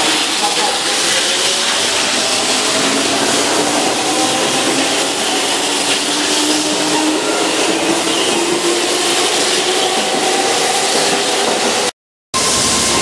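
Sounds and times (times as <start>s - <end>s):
train wheel rushing noise: 0.0s - 13.0s.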